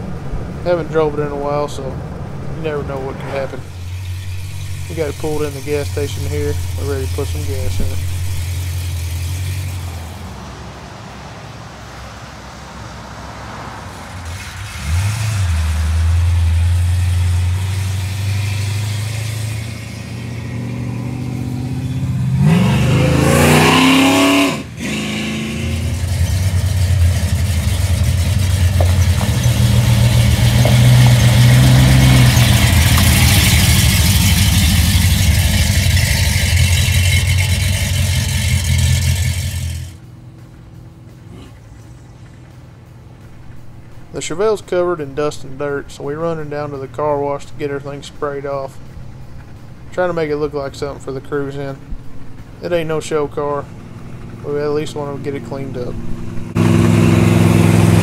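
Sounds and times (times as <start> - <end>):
car engine running and revving: 0.0 - 44.5, 48.7 - 58.0.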